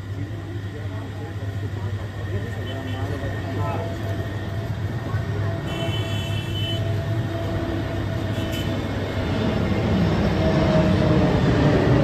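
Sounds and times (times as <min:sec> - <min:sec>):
outdoor crowd background noise: 0:00.0 - 0:12.0.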